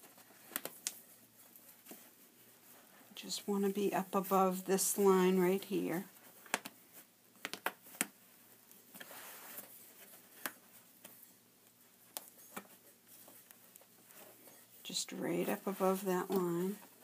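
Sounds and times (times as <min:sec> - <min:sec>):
soft fabric rustling: 0:00.0 - 0:17.0.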